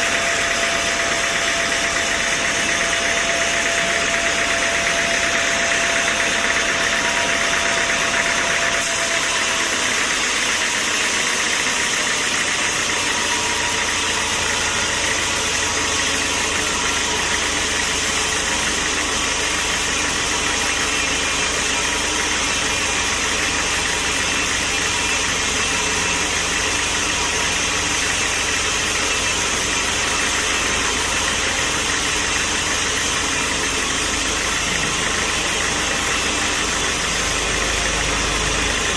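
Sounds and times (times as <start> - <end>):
machinery droning: 0.0 - 38.9.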